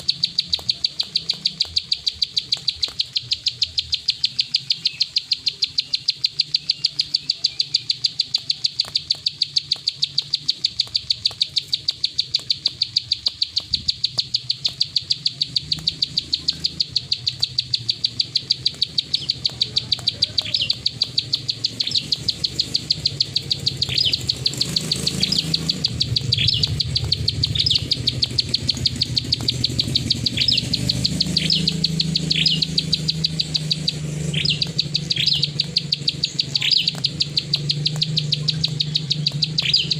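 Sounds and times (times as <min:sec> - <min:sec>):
bird dry ticking call: 0:00.0 - 0:39.9.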